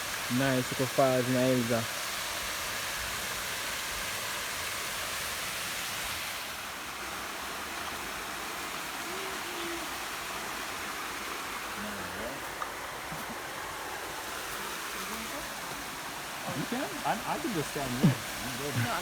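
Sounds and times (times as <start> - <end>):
small waterfall rushing: 0.0 - 19.0.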